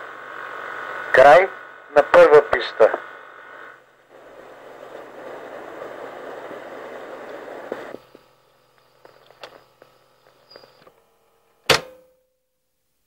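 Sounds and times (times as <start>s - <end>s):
steady hiss-like noise: 0.0s - 13.0s.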